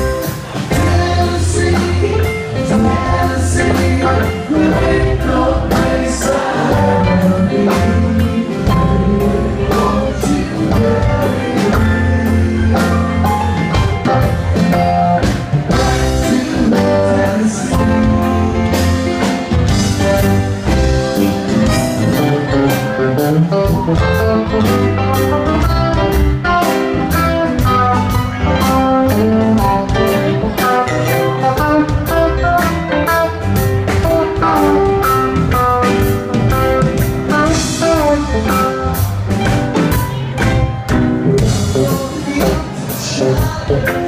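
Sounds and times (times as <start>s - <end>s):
bass: 0.0s - 44.0s
keyboards: 0.0s - 44.0s
steady drum beat: 0.0s - 44.0s.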